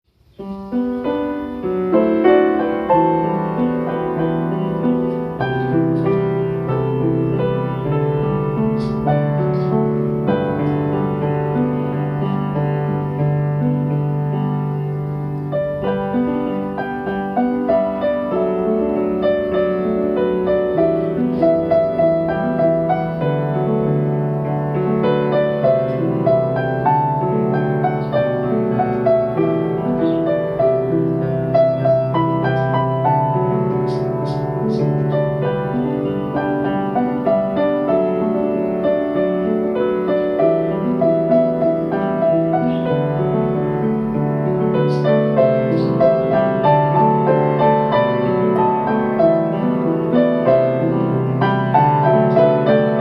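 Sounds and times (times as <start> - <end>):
solo piano melody: 0.0 - 53.0.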